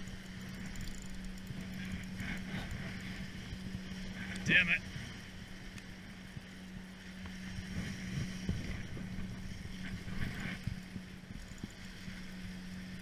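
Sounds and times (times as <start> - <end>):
low hum: 0.0 - 13.0
wind rumbling on microphone: 0.0 - 13.0.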